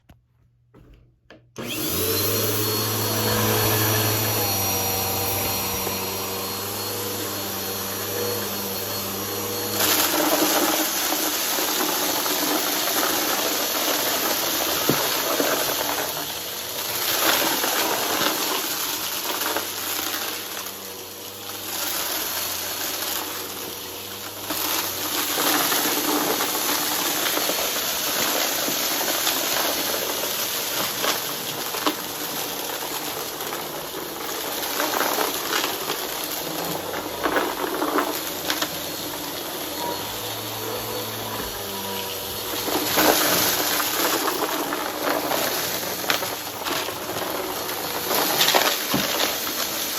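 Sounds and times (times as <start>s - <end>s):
vacuum cleaner motor running: 0.9s - 49.9s
brushroll crunching debris: 1.6s - 49.9s.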